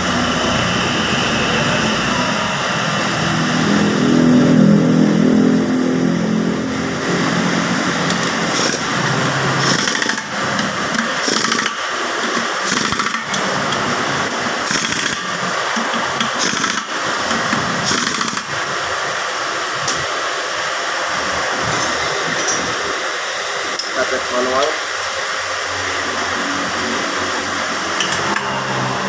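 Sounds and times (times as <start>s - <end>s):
loud workshop noise: 0.0s - 29.0s
power tool running in bursts: 0.0s - 29.0s.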